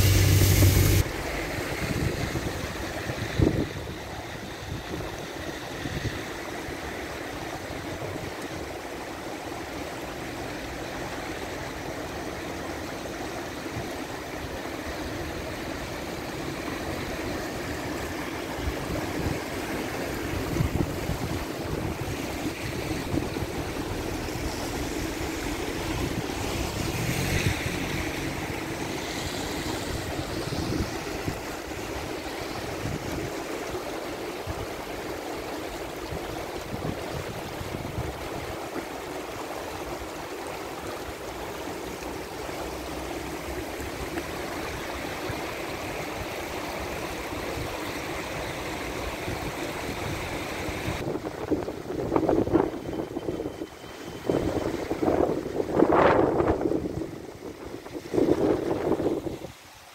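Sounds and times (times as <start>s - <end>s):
wind rumbling on microphone: 0.0s - 8.8s, 15.9s - 59.8s
floodwater rushing down channel: 0.0s - 59.9s.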